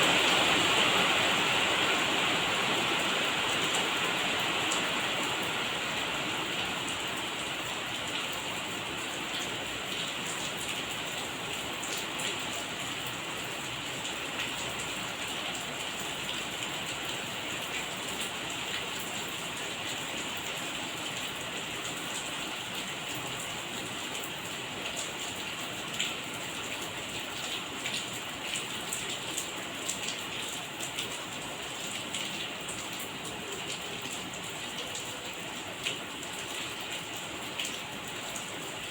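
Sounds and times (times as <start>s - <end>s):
raindrops striking a surface: 0.0s - 38.9s
steady rain hiss: 0.0s - 38.9s.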